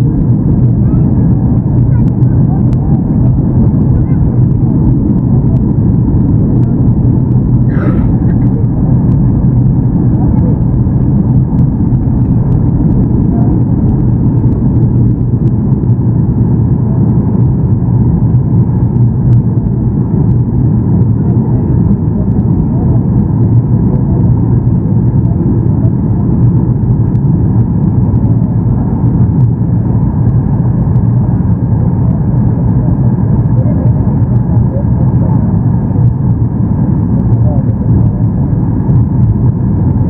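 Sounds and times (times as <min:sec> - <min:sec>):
aircraft cabin rumble: 0:00.0 - 0:40.0.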